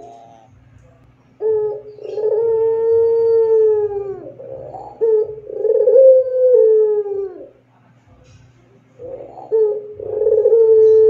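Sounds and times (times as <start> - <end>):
dove cooing: 0.0 - 7.7, 8.9 - 11.0.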